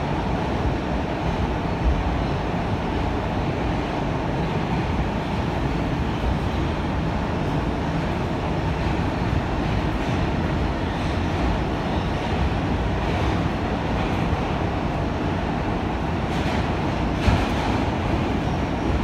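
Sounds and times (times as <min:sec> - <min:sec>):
subway car rumbling at speed: 0:00.0 - 0:19.0.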